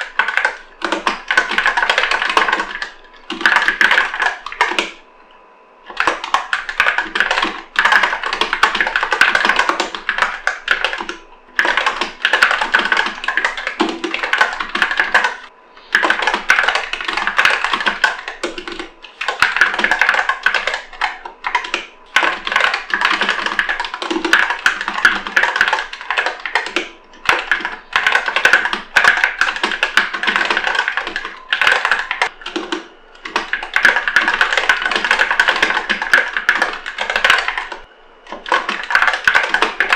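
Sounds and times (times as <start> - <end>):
keyboard typing clicks: 0.0 - 5.0, 5.9 - 39.9.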